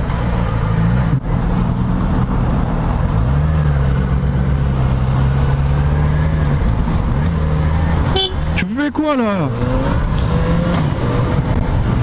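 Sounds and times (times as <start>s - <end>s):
motorcycle engine accelerating: 0.0s - 8.6s, 9.4s - 12.0s.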